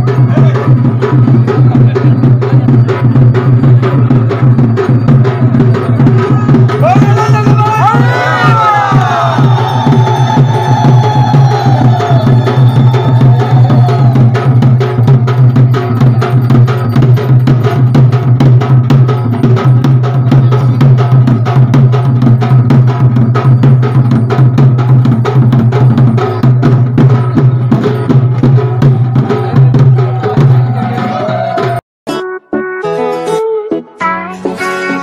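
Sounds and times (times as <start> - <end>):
drums in a fast steady beat: 0.0 - 31.8.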